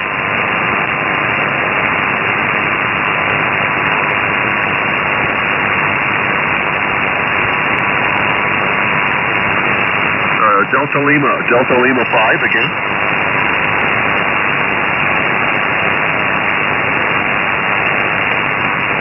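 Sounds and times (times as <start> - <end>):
shortwave radio static hiss: 0.0 - 19.0.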